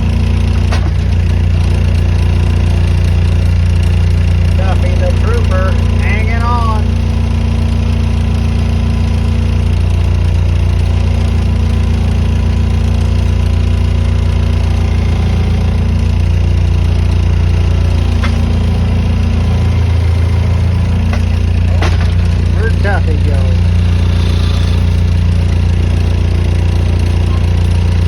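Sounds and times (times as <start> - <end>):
skid loader engine drone: 0.0 - 28.0.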